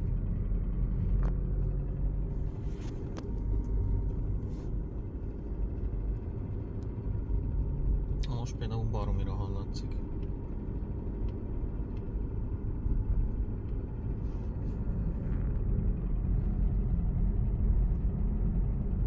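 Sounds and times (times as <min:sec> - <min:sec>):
diesel engine idling with clatter: 0:00.0 - 0:19.0.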